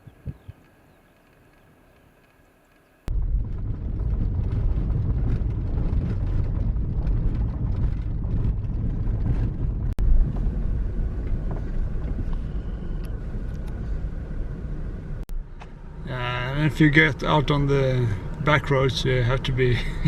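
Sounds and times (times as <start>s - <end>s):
car driving on rough road: 0.0s - 20.0s.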